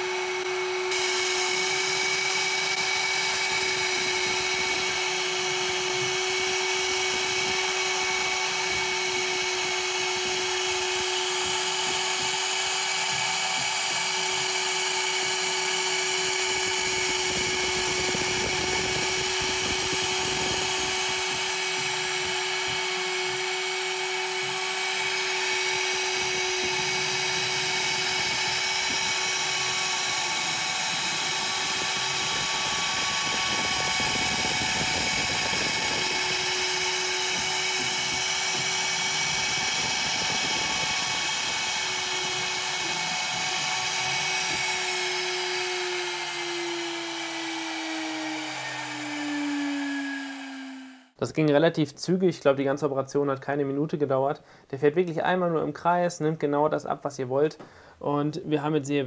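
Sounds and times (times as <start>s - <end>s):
end mill cutting wood: 0.0s - 51.2s
router spindle whining: 0.0s - 51.2s.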